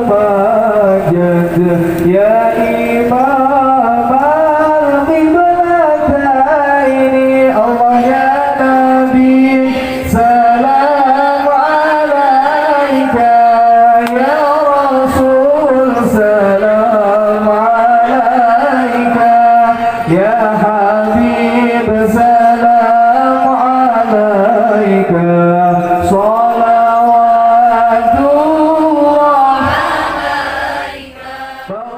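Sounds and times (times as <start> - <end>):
man singing devotional chant: 0.0 - 31.9.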